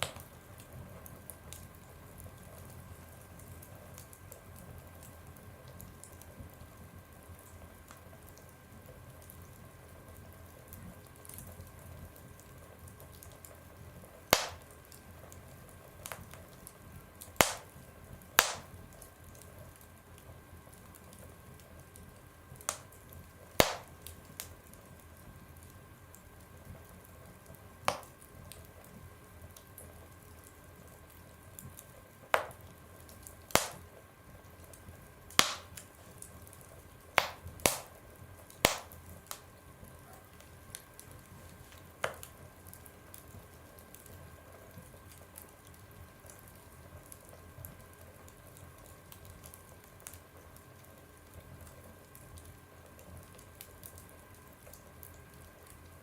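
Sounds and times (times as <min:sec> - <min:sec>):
low steady hiss: 0:00.0 - 0:56.0
wood fire crackling: 0:00.0 - 0:56.0.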